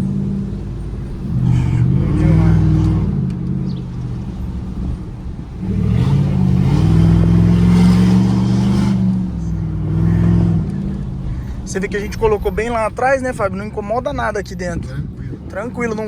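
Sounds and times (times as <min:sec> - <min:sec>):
deep truck exhaust note: 0:00.0 - 0:16.0.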